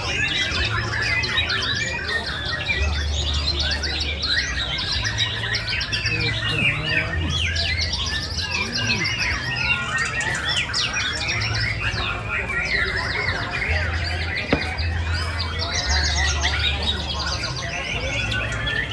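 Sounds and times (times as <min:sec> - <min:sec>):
songbirds singing: 0:00.0 - 0:18.9.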